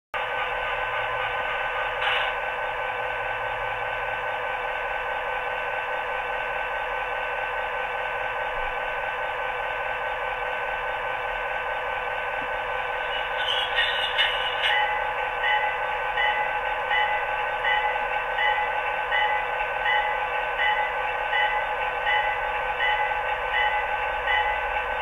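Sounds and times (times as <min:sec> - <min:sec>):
model diesel locomotive idling: 0:00.2 - 0:25.0.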